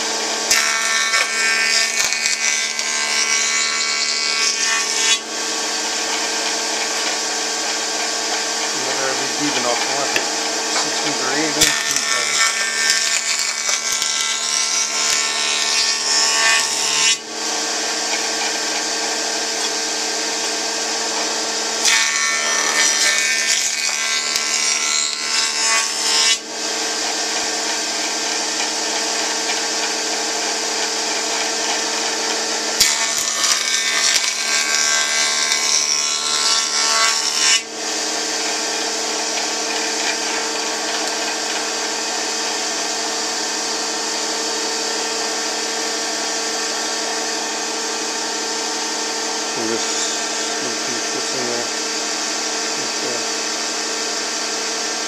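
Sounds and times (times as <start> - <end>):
board cutting noise: 0.0 - 55.0
woodworking machine motor hum: 0.0 - 55.0.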